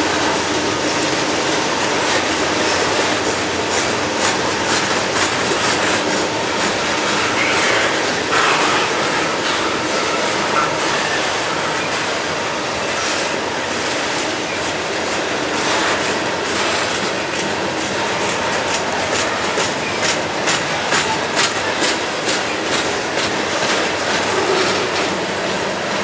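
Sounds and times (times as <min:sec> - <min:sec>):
train wheels on rails: 0:00.0 - 0:26.0
wheels clacking over rail joints: 0:00.0 - 0:26.0.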